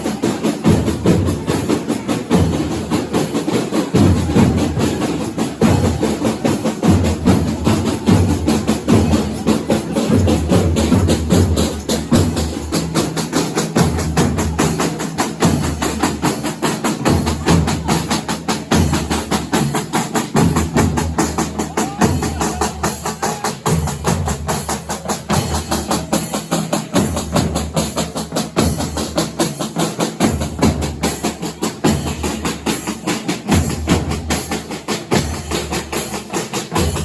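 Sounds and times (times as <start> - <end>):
jingling hand drums: 0.0 - 37.0.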